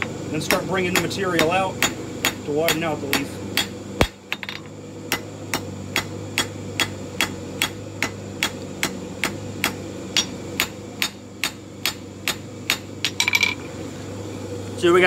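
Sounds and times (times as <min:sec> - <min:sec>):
hammer striking steel on anvil: 0:00.0 - 0:13.6.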